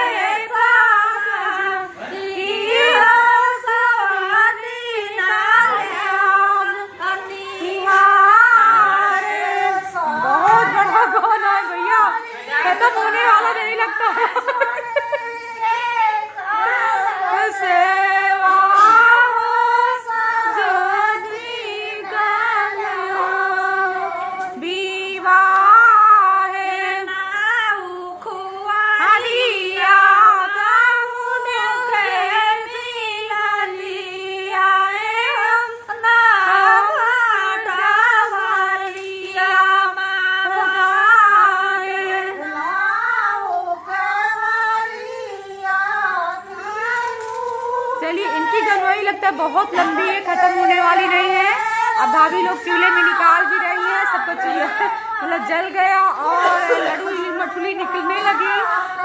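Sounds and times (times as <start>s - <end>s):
women singing folk song: 0.0s - 59.0s.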